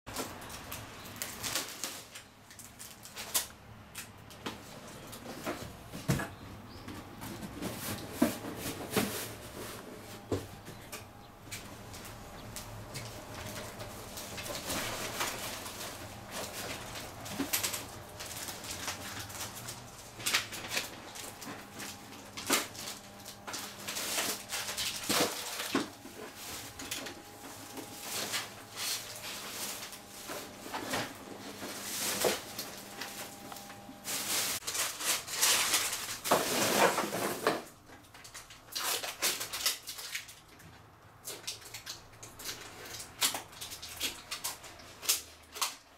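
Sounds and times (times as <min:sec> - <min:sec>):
faint steady hum: 0:00.2 - 0:45.9.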